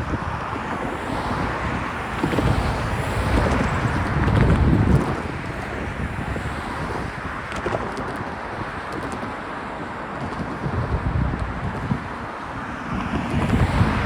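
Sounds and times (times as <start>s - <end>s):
train wheels rumbling on rail: 0.0s - 14.0s
wind on microphone: 0.0s - 14.0s.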